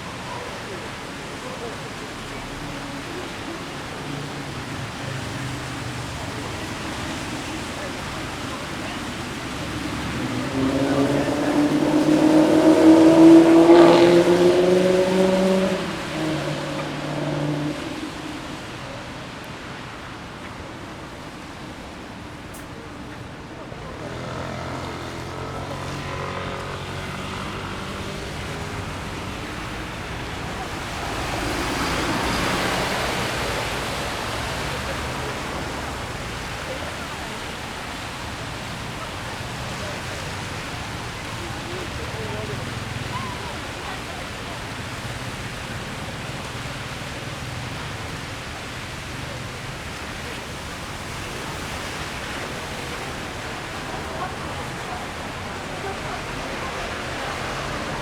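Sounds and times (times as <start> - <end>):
rain hissing: 0.0 - 58.0
traffic with engine hum: 0.0 - 58.0
vehicle swishing past on wet road: 0.0 - 58.0.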